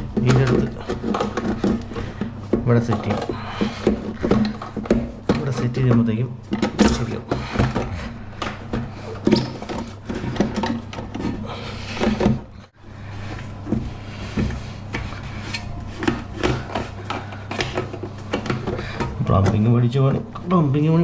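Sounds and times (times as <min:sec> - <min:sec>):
plastic parts knocking and scraping: 0:00.0 - 0:20.6.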